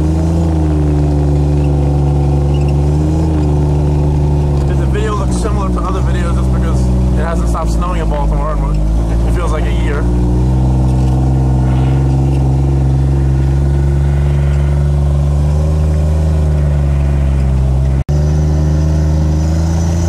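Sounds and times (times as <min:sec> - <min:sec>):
utility vehicle engine running: 0:00.0 - 0:20.0.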